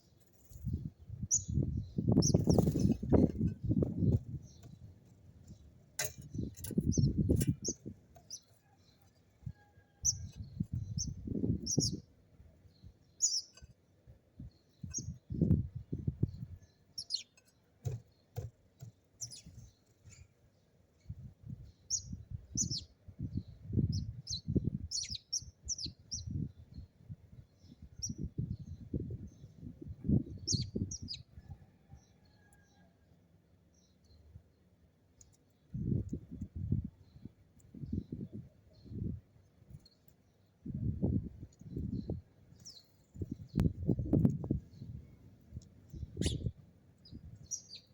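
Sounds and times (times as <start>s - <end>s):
sparrows chirping: 0.0s - 32.8s, 33.6s - 47.9s.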